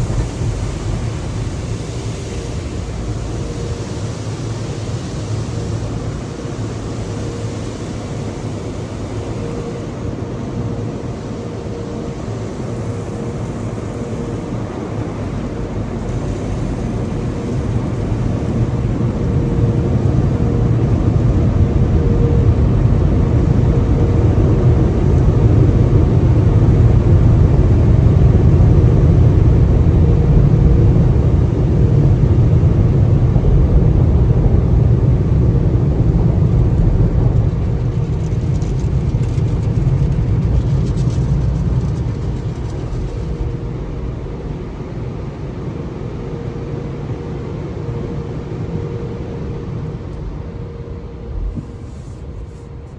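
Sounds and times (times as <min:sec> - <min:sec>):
car wash machinery roaring: 0:00.0 - 0:52.9.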